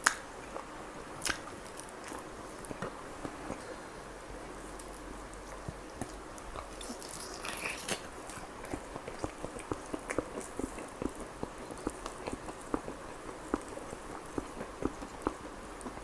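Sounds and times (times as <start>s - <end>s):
chewing and biting food: 0.0s - 3.7s, 4.4s - 16.0s.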